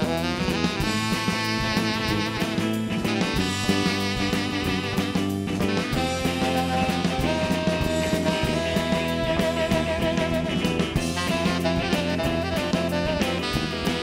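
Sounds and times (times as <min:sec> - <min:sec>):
electric guitar: 0:00.0 - 0:14.0
steady drum beat: 0:00.0 - 0:14.0.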